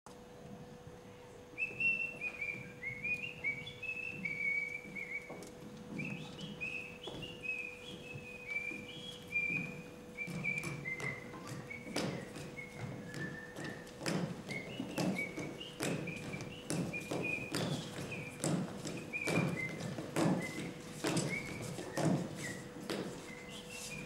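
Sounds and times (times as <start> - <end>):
person whistling folk melody: 1.6 - 24.0
soft footfalls on stage floor: 1.7 - 24.0.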